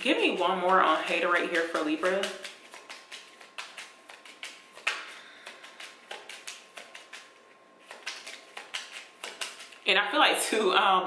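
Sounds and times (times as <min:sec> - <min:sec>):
cards being shuffled: 0:00.3 - 0:09.9.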